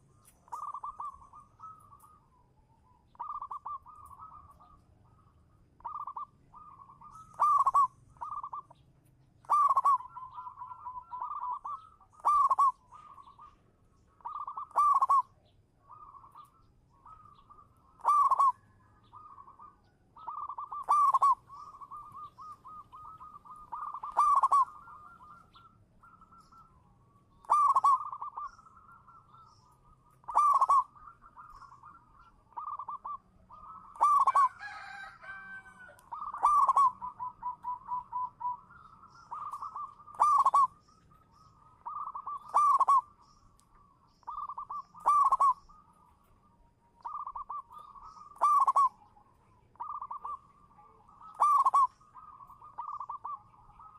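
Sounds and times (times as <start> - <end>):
dove cooing: 0.0 - 8.8, 9.4 - 43.2, 43.8 - 53.9.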